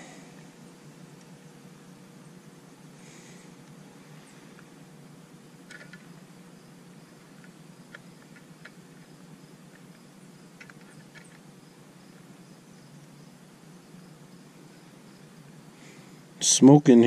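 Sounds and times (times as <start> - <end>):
soldering gun hum: 0.0 - 16.4.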